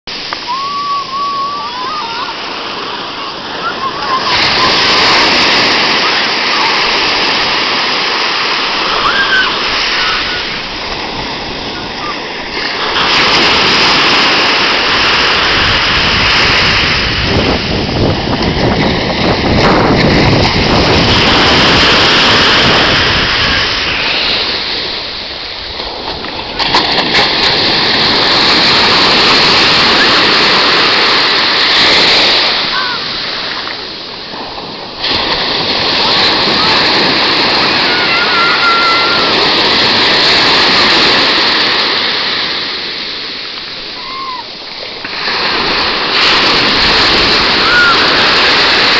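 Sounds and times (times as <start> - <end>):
waves breaking on shore: 0.1 - 48.9.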